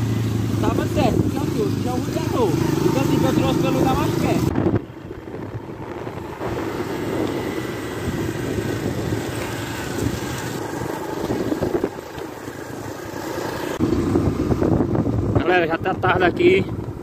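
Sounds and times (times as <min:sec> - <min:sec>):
motorcycle engine rumble: 0:00.0 - 0:17.0
wind rushing over microphone: 0:00.6 - 0:17.0.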